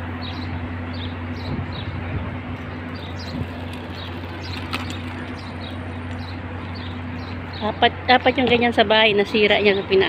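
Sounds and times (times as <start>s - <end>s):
steady low hum: 0.0s - 10.0s
small birds chirping: 0.2s - 2.0s, 2.6s - 10.0s.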